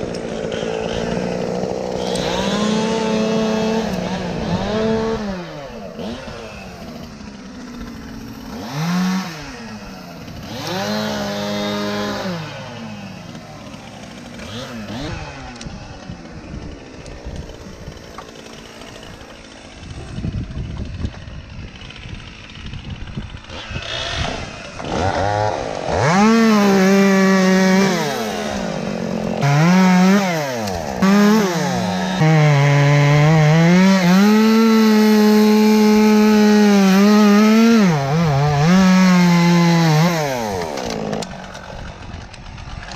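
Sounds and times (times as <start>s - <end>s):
chainsaw revving and cutting wood: 0.0s - 42.9s.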